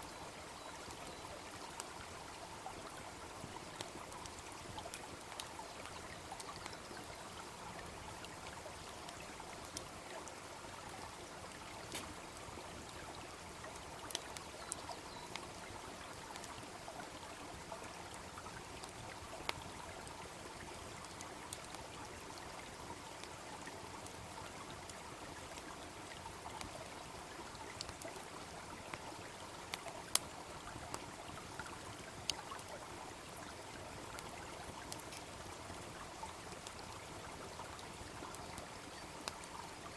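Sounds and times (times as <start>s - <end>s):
brook babbling: 0.0s - 39.9s
campfire crackling and popping: 0.7s - 39.9s.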